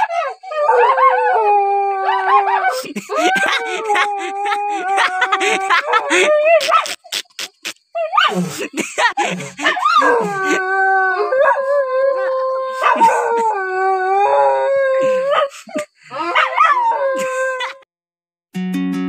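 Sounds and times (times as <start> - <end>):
dog howling and yelping: 0.0 - 7.2, 7.9 - 8.4, 9.0 - 17.8.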